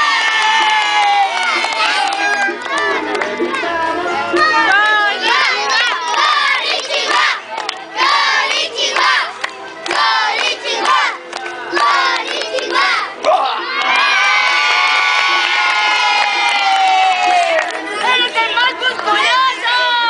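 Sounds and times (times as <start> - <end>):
children shouting and cheering: 0.0 - 20.0.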